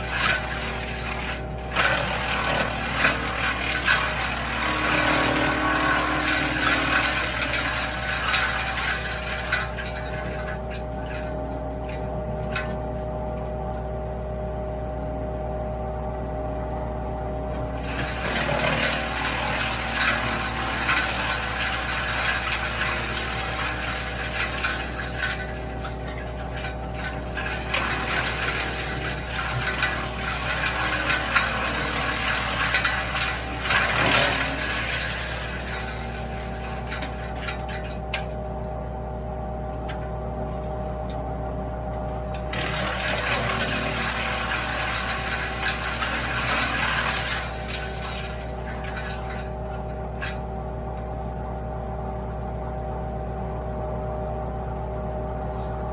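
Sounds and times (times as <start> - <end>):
wood chipper running: 0.0 - 55.9.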